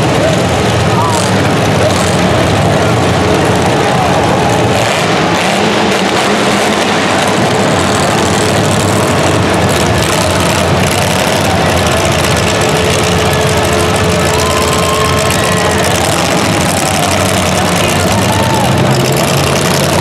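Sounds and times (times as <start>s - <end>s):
heavy vehicle engine: 0.0s - 20.0s.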